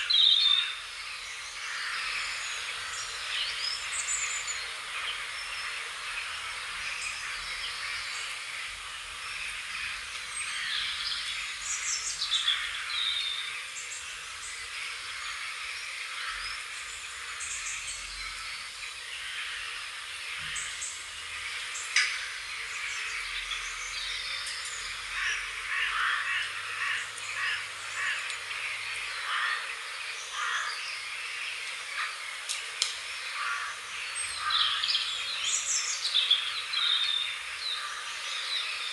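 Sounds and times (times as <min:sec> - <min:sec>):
songbirds chirping: 0:00.0 - 0:38.9
steady outdoor hiss: 0:00.0 - 0:38.9.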